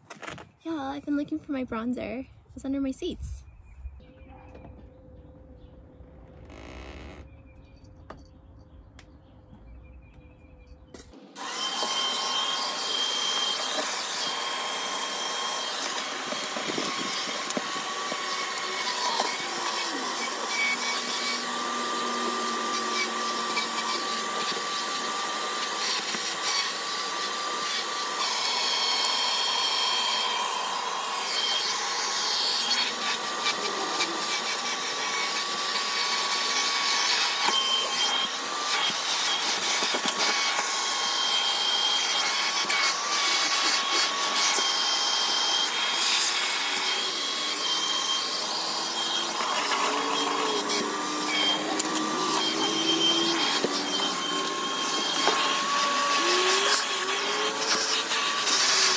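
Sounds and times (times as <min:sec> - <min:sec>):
vacuum cleaner whining: 0:04.2 - 0:58.9.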